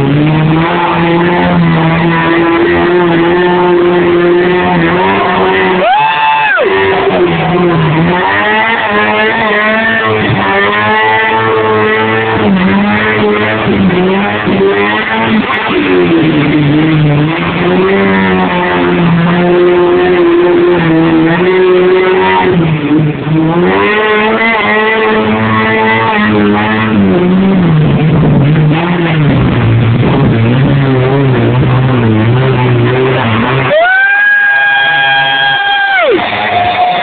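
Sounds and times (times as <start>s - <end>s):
engine revving hard: 0.0s - 37.0s.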